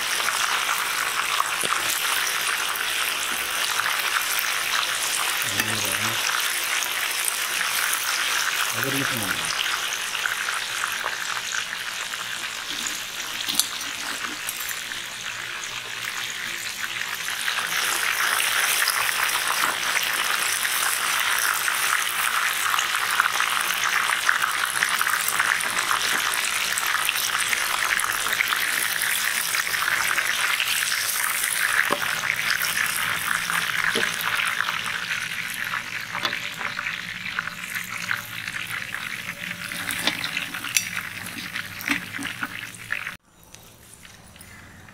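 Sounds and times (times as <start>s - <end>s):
fish deep-frying in oil sizzling: 0.0s - 44.9s.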